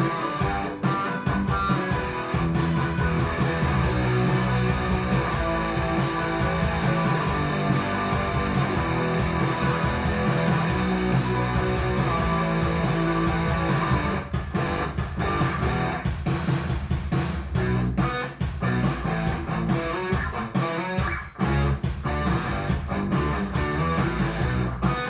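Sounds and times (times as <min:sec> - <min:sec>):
guitar-led music through speakers: 0:00.0 - 0:16.3, 0:17.6 - 0:25.0.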